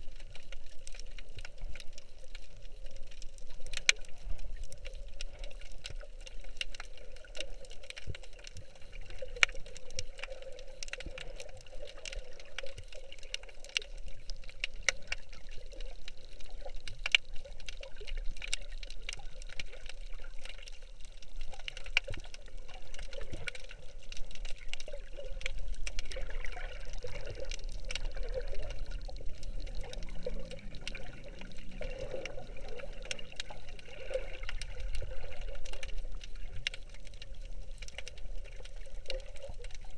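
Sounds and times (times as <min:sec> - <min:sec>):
muffled underwater water wash: 0:00.0 - 0:39.9
underwater clicks and crackles: 0:00.0 - 0:39.9.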